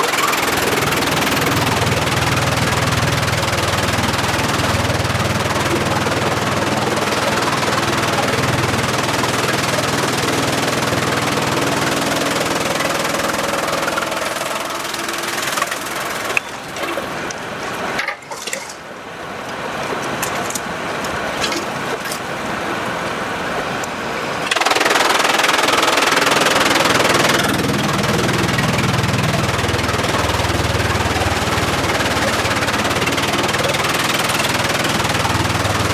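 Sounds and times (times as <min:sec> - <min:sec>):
sawmill machinery running: 0:00.0 - 0:35.9.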